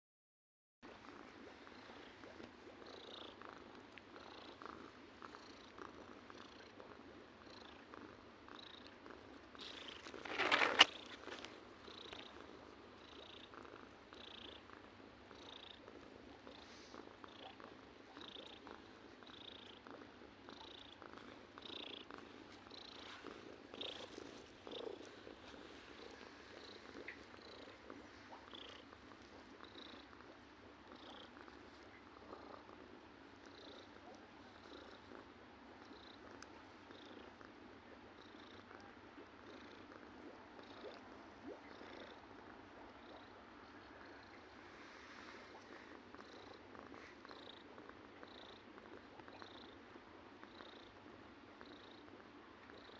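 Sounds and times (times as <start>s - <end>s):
cat purring: 0.9s - 52.9s.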